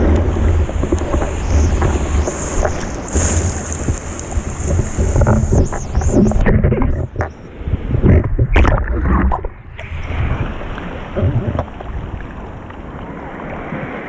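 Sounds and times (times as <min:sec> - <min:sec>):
wind buffeting microphone: 0:00.0 - 0:13.1
sea surf: 0:00.0 - 0:14.0.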